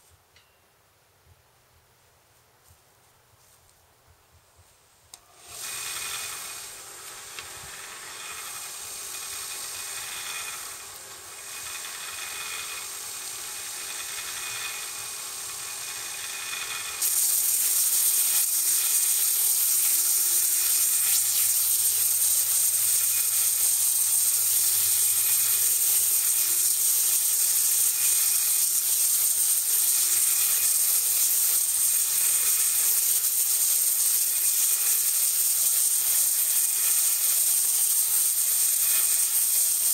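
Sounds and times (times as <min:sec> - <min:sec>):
bench sander whining: 0:05.1 - 0:39.9
wood sanding hiss: 0:05.2 - 0:39.9.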